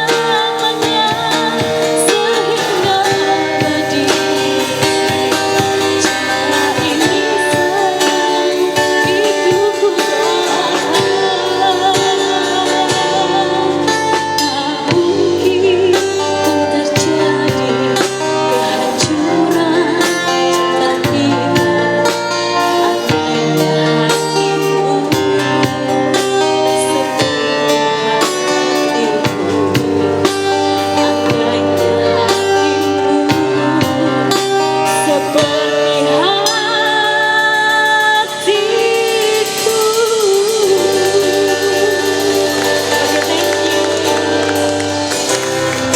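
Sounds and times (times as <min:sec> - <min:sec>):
strummed guitar chords: 0:00.0 - 0:45.9
woman singing with vibrato: 0:00.0 - 0:45.9.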